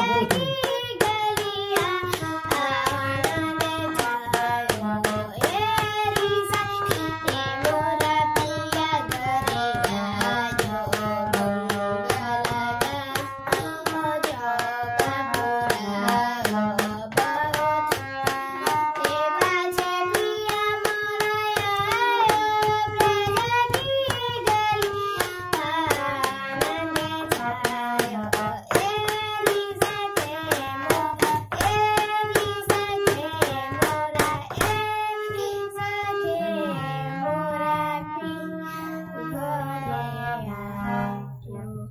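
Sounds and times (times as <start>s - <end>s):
boy singing: 0.0s - 41.9s
harmonium held notes: 0.0s - 41.9s
sharp rhythmic taps: 0.0s - 41.9s.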